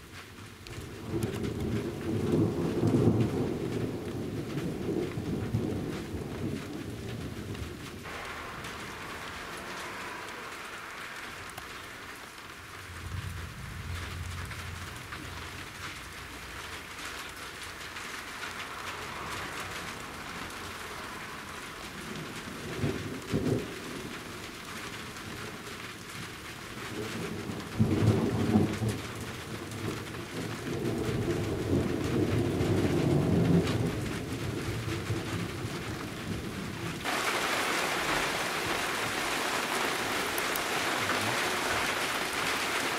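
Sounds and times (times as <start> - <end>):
steady rain: 0.0 - 42.9
thunder rumbling and cracking: 0.6 - 42.9.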